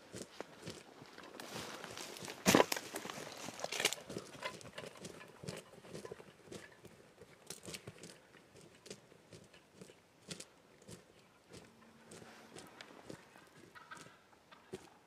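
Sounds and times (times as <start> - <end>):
footsteps crunching through dry brush: 0.0 - 14.9.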